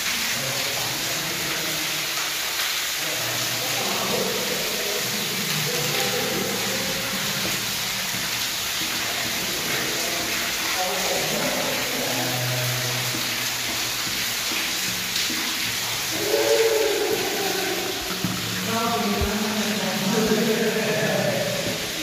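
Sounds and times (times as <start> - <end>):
water rushing down a pipe: 0.0 - 22.0.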